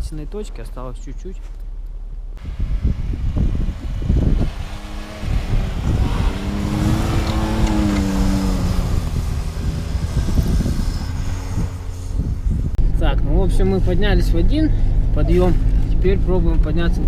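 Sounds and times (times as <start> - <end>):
car engine working under load: 1.6 - 16.8
car rumbling over snow track: 2.4 - 17.0.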